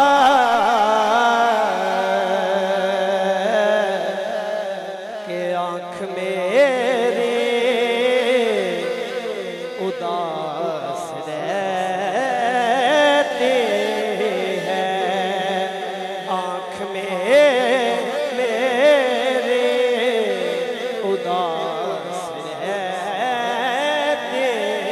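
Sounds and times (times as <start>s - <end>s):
man singing devotional song: 0.0s - 24.9s.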